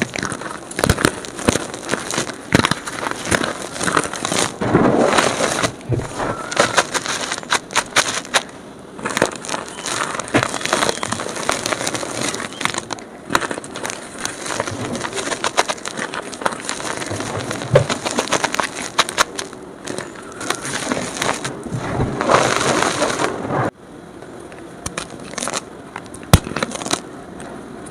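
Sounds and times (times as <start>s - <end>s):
chalk crunching: 0.0s - 23.7s.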